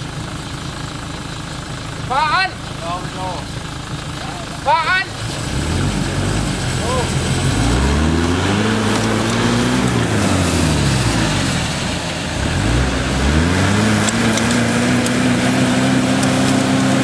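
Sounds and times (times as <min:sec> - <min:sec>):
off-road vehicle engine revving: 0:02.0 - 0:17.0.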